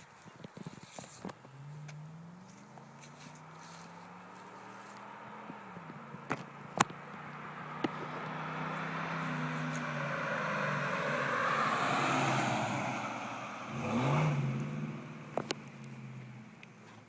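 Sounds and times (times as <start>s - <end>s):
pickup truck driving past: 1.5s - 15.3s.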